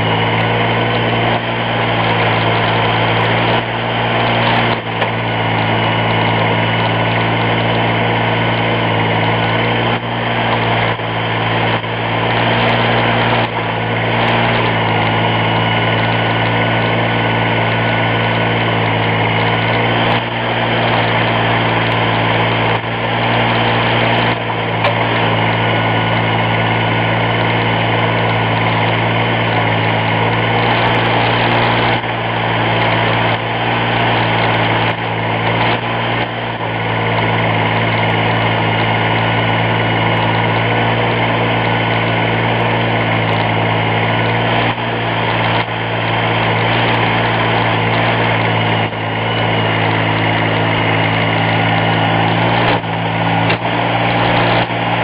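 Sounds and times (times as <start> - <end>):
garden tractor engine running: 0.0 - 55.0.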